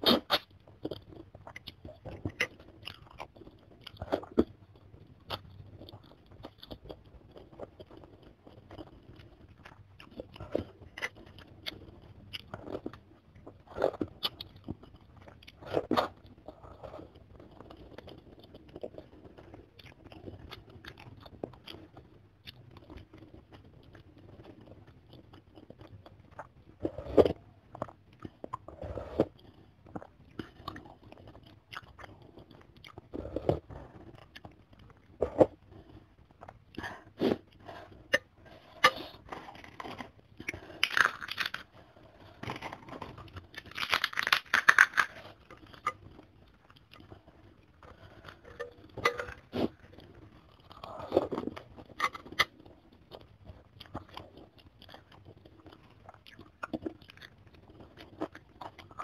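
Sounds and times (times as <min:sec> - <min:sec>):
chewing and crunching: 0:00.0 - 0:59.0.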